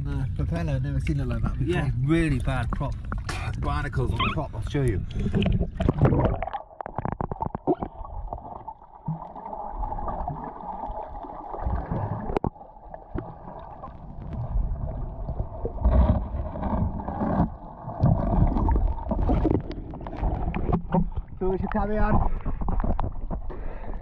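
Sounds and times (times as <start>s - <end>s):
gurgling water underwater: 0.0s - 24.0s
clicks and splashes: 2.3s - 4.4s, 5.0s - 14.6s, 15.3s - 23.6s.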